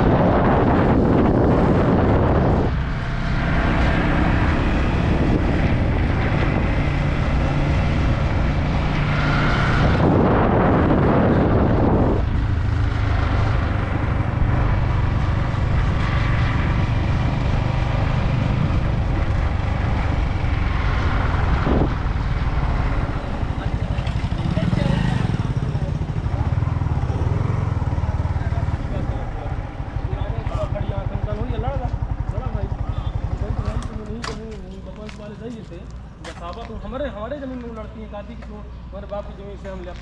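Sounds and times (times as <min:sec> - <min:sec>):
motorcycle engine running: 0:00.0 - 0:35.3
wind rushing over microphone: 0:00.0 - 0:36.2.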